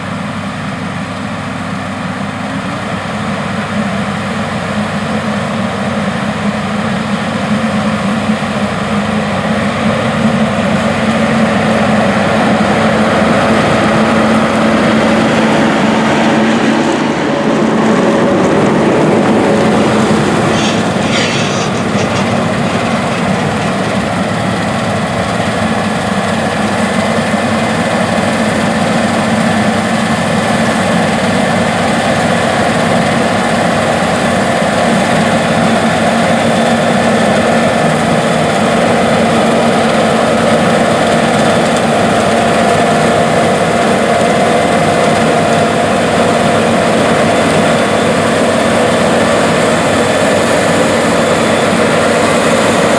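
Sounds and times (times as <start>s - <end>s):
combine harvester engine drone: 0.0s - 52.9s.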